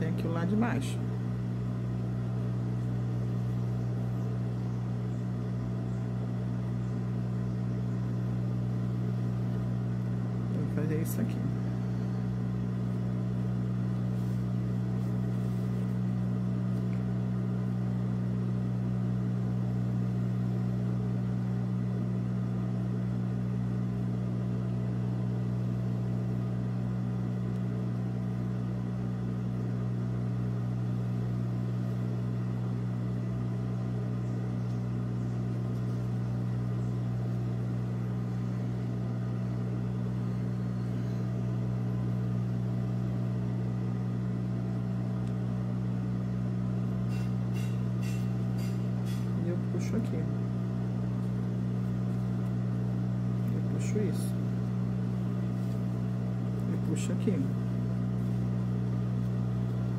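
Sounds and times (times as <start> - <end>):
low electric hum: 0.0 - 59.9.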